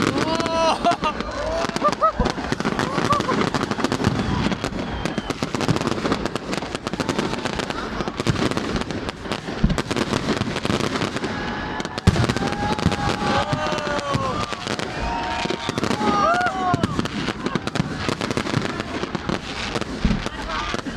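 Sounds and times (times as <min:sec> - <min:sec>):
fireworks booms: 0:00.0 - 0:20.9
fireworks crackling: 0:00.0 - 0:20.9
whistling fireworks: 0:00.0 - 0:20.9.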